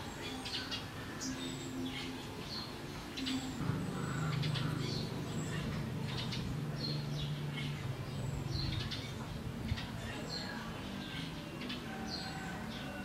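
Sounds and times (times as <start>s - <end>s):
steady low hum: 0.0s - 12.6s
starlings chirping: 0.0s - 13.0s.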